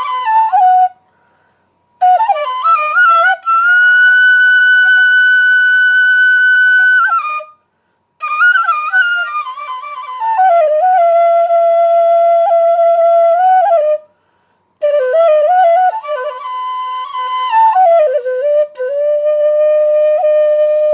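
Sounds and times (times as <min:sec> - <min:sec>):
wind instrument melody: 0:00.0 - 0:01.0, 0:02.0 - 0:07.6, 0:08.2 - 0:14.1, 0:14.8 - 0:20.9.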